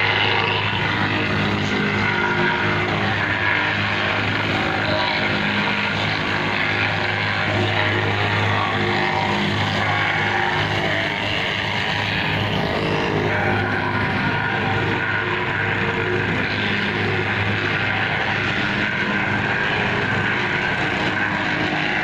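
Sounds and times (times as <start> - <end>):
plate compactor running: 0.0 - 22.0.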